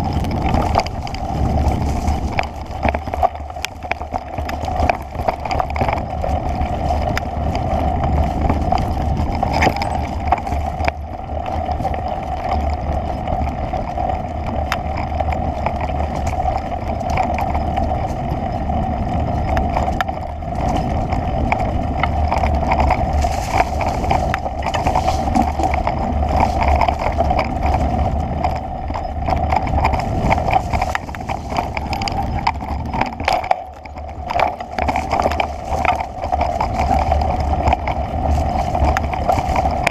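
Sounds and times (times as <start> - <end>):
small clicks and knocks: 0.0 - 12.8, 19.4 - 39.9
camera movement rumble and hum: 0.0 - 39.9.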